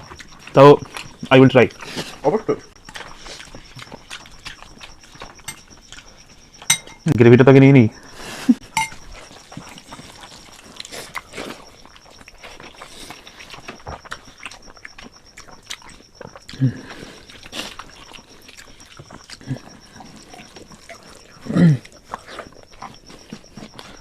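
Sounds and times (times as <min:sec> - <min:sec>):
people chewing food: 0:00.0 - 0:24.0.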